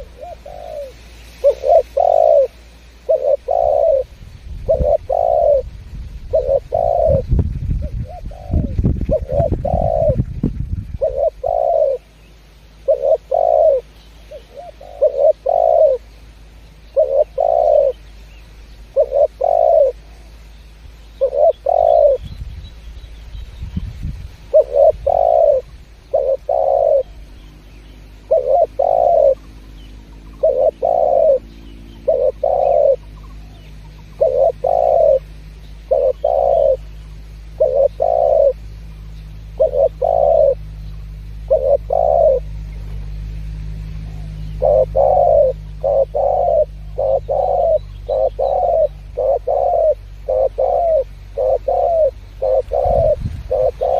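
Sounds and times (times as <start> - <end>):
dove cooing: 0.0 - 12.2, 12.8 - 16.2, 16.8 - 18.2, 18.8 - 20.3, 21.1 - 22.4, 24.4 - 53.9.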